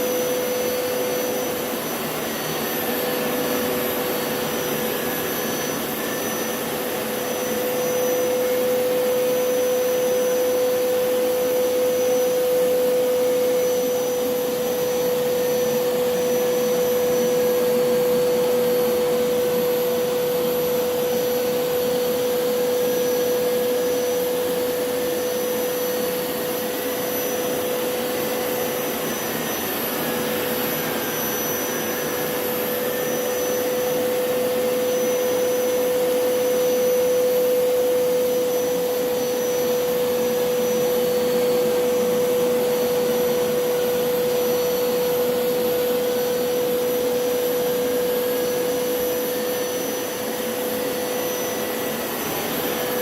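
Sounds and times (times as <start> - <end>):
carpet cleaner motor humming: 0.0 - 53.0.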